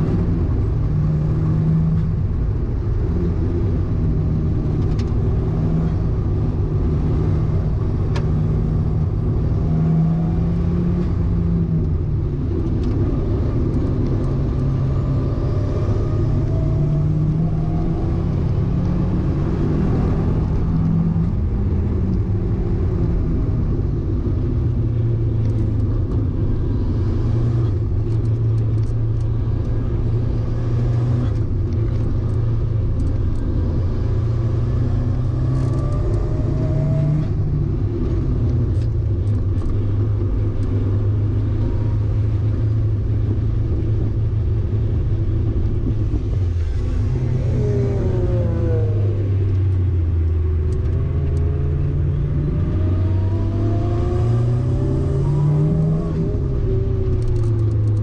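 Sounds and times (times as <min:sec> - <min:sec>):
car engine at high revs: 0:00.0 - 0:58.0
constant rumble: 0:00.0 - 0:58.0.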